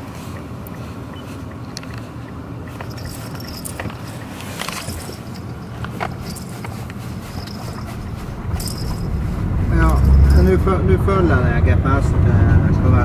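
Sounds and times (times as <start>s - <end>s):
light clicks and rattles: 0.0s - 10.7s
car road and engine noise: 0.0s - 13.0s.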